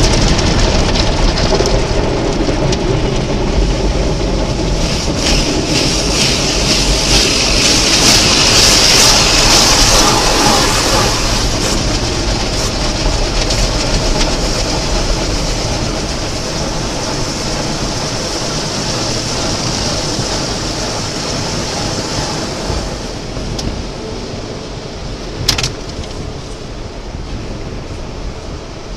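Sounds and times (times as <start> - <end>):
car wash machinery hissing: 0.0 - 28.9.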